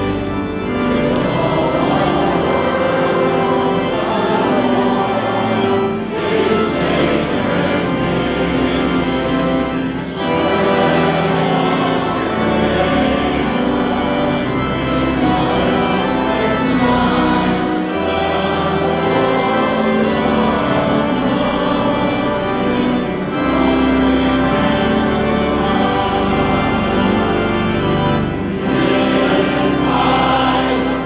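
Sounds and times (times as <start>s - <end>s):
church organ chords: 0.0s - 31.0s
congregation singing: 0.0s - 31.0s.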